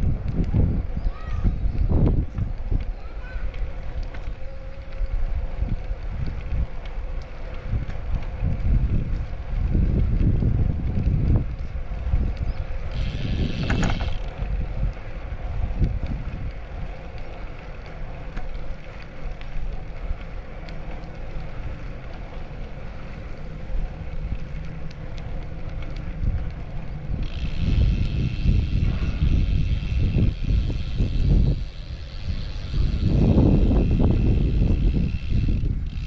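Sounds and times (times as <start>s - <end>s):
bicycle tyre noise: 0.0s - 36.0s
wind buffeting microphone: 0.0s - 36.0s.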